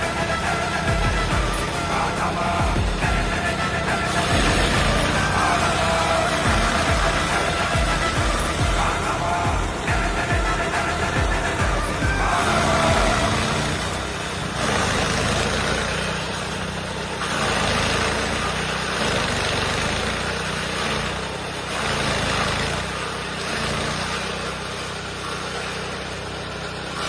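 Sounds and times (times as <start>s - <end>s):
chaff cutter hissing: 0.0s - 27.0s
petrol engine humming: 0.0s - 27.0s.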